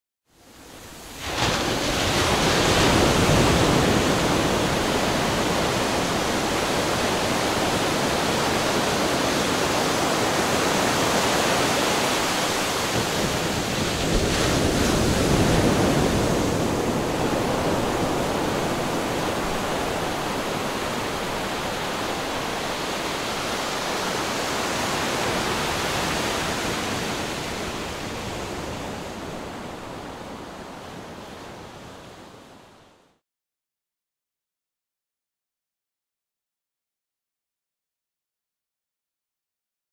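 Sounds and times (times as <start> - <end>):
ocean waves on shore: 0.4 - 33.0.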